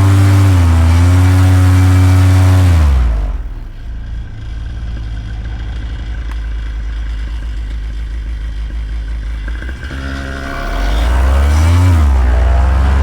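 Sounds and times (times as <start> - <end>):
paramotor engine running: 0.0 - 13.0.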